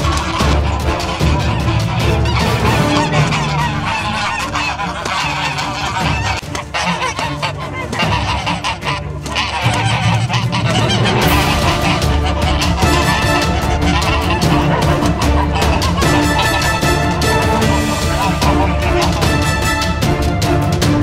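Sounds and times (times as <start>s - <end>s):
ganders fighting: 0.0s - 21.0s
geese honking loudly: 0.0s - 21.0s.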